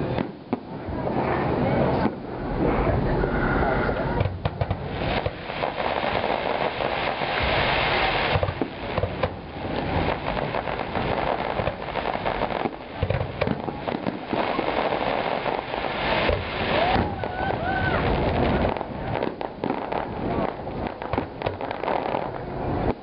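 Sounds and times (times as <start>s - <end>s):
firework bangs: 0.0s - 23.0s
firework crackling: 0.0s - 23.0s.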